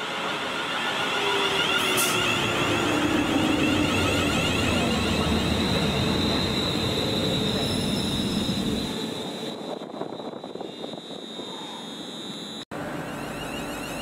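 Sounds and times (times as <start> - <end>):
high whine of train: 0.0 - 14.0
train passing at speed: 0.0 - 14.0
deep train rumble: 0.1 - 11.8.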